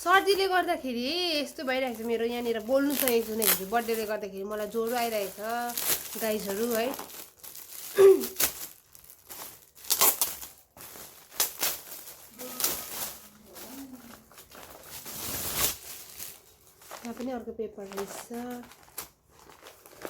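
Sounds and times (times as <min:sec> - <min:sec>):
wrapping paper crinkling and tearing: 0:00.2 - 0:20.0.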